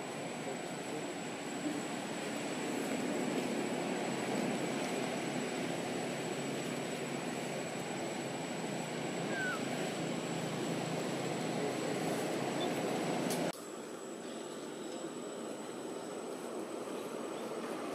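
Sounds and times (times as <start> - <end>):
outdoor background noise: 0.0 - 17.9.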